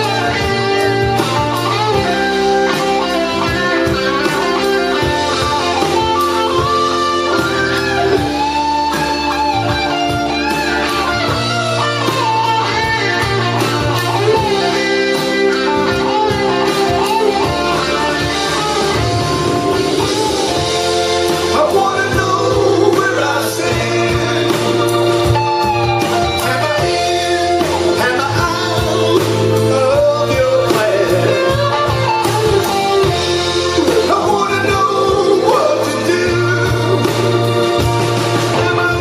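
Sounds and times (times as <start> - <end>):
electric guitar lead with bent notes: 0.0 - 39.0
live blues band playing: 0.0 - 39.0.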